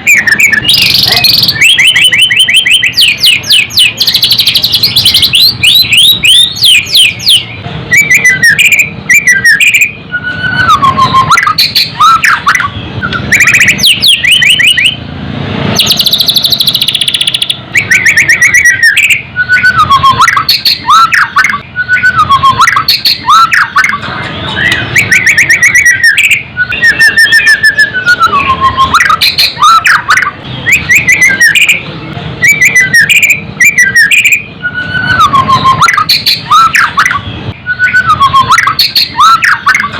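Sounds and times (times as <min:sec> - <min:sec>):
bird singing whistled phrases and trills: 0:00.0 - 0:15.0, 0:15.8 - 0:39.9.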